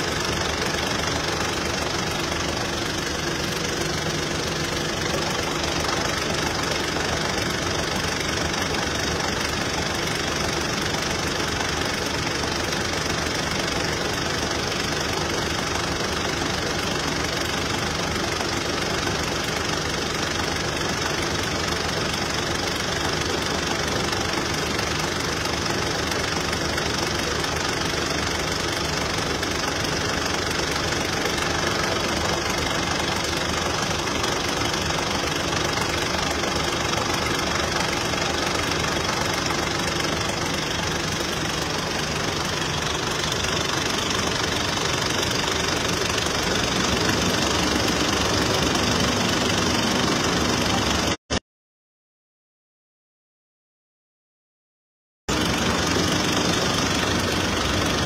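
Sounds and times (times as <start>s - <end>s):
heavy machinery engines running: 0.0s - 51.2s, 55.3s - 58.0s.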